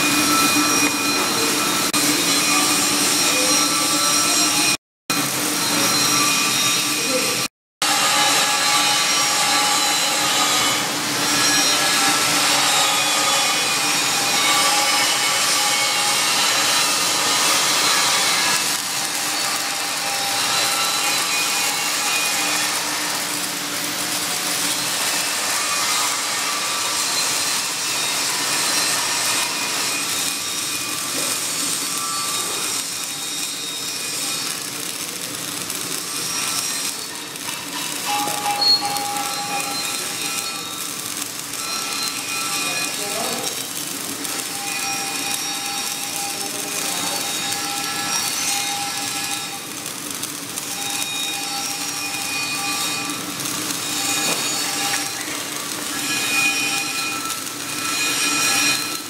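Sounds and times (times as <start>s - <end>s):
welding arc crackling hiss: 0.0s - 59.0s.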